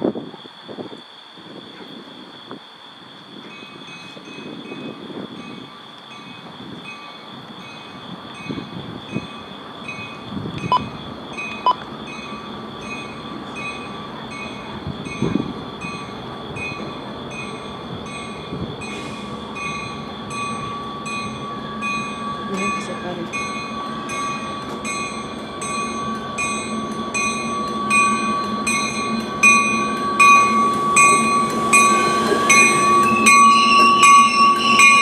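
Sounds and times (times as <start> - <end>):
faint tone from train: 0.0 - 35.0
level crossing warning bell: 3.4 - 35.0.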